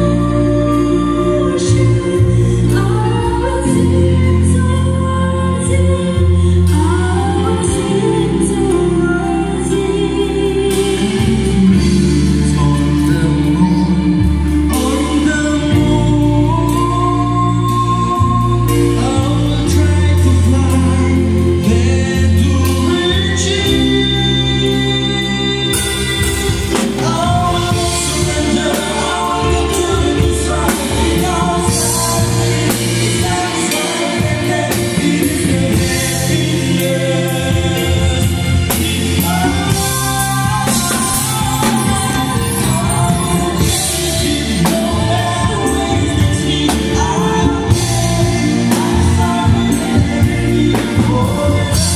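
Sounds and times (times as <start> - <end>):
bass: 0.0 - 51.9
drums: 0.0 - 51.9
keyboard: 0.0 - 51.9
people singing: 0.0 - 51.9.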